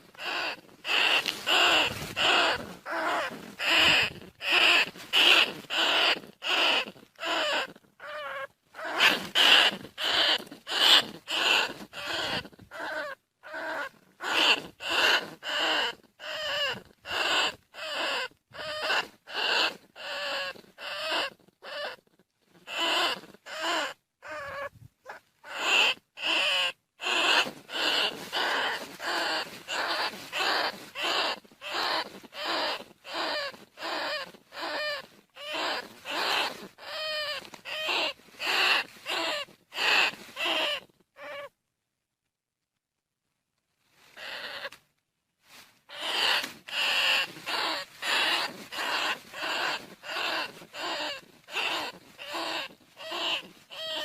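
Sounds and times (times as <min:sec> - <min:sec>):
rat squeaky calls: 0:00.0 - 0:22.0, 0:22.6 - 0:41.5, 0:44.2 - 0:44.8, 0:45.9 - 0:54.0.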